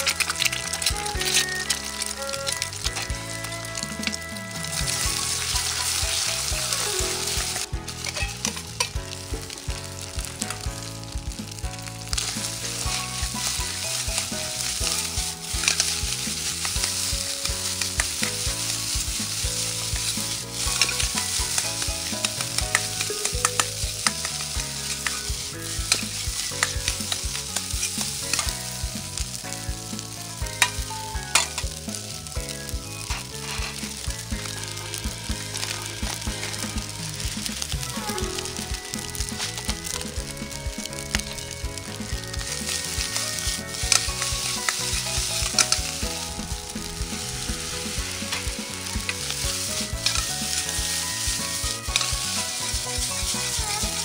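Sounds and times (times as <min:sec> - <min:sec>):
metal ladle scraping pan: 0:00.0 - 0:10.7, 0:11.5 - 0:29.6, 0:33.0 - 0:35.0, 0:35.6 - 0:54.0
rice sizzling in wok: 0:00.0 - 0:54.0.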